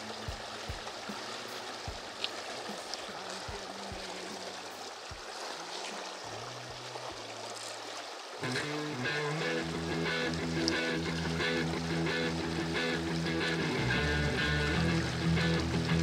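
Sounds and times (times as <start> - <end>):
flowing river current: 0.0 - 16.0.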